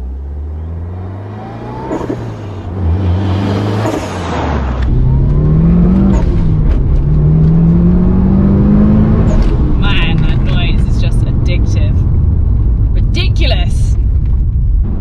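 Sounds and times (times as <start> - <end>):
car engine accelerating hard: 0.0 - 12.9.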